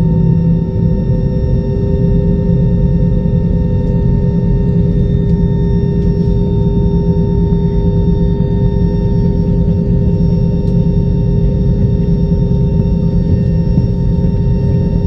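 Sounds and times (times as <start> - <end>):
jet engine whine: 0.0 - 15.0
low rumble of cabin noise: 0.0 - 15.0.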